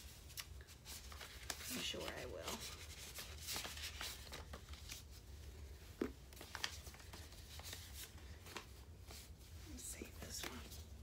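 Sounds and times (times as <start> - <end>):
paper and tissue rustling: 0.0 - 11.0.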